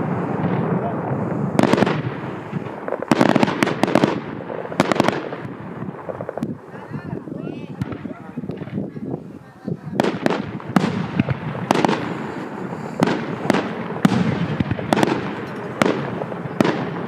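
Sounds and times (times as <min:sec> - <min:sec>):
fireworks bangs echoing: 0:00.0 - 0:17.0.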